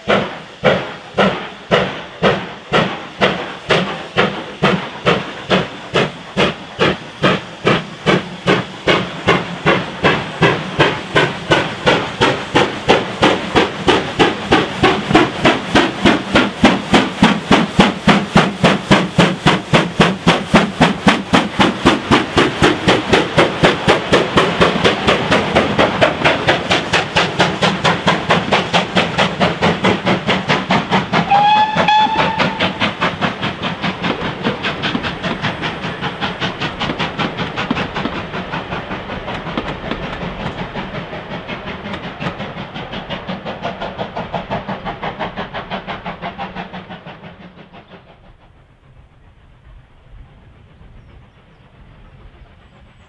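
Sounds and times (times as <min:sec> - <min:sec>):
steam locomotive exhaust beats: 0:00.0 - 0:53.0.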